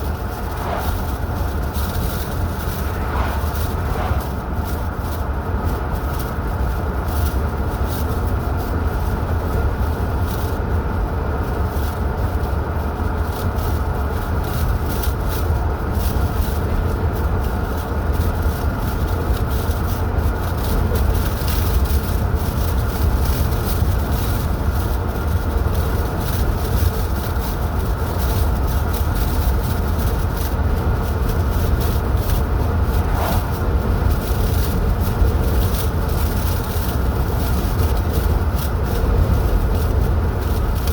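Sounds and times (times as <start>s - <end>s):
car engine and road rumble: 0.0s - 40.9s
tyre and wind hiss: 0.0s - 40.9s.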